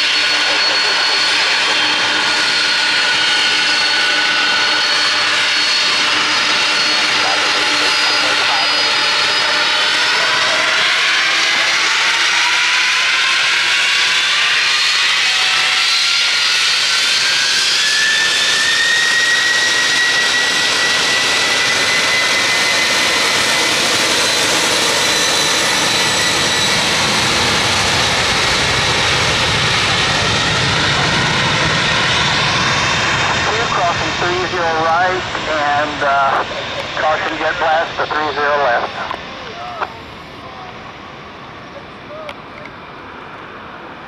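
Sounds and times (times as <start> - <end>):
jet engines spooling up: 0.0 - 44.0
low rumble of jet blast: 0.0 - 44.0.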